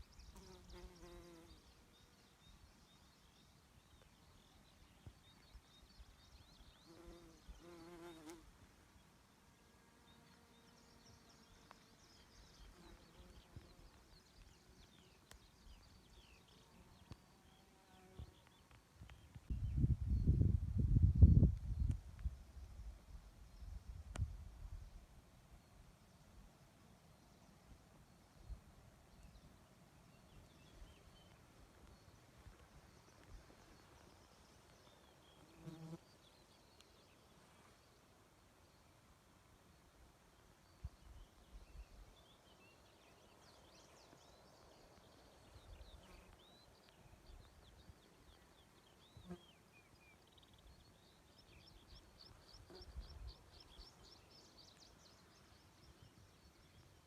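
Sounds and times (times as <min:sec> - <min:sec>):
small birds chirping: 0:00.0 - 0:39.2, 0:39.8 - 0:57.0.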